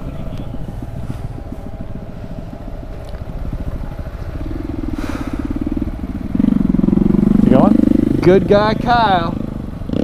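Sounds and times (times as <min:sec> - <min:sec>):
small motorcycle engine running: 0:00.0 - 0:10.0.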